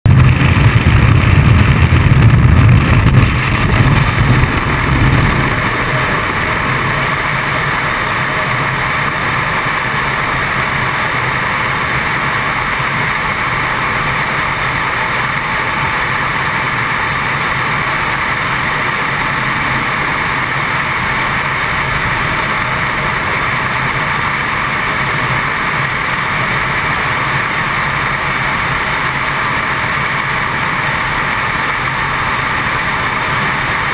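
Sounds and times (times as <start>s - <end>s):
aircraft low rumble: 0.0s - 33.9s
freefall wind buffeting microphone: 0.0s - 33.9s.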